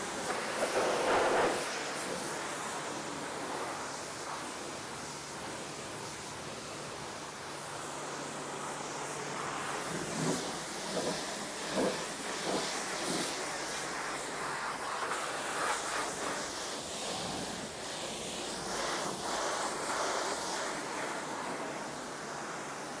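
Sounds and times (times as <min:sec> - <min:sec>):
high-pressure water jet spraying: 0:00.0 - 0:23.0.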